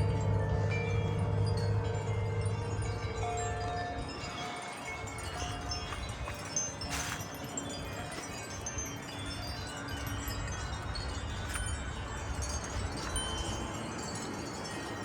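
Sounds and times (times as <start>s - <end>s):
low wind rumble: 0.0s - 15.0s
wind chimes ringing: 0.0s - 15.0s.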